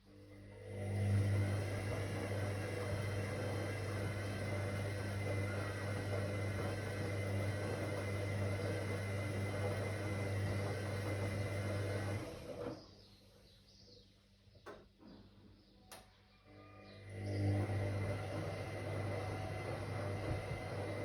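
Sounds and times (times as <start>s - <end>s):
washing machine running: 0.1s - 13.0s, 17.0s - 21.0s.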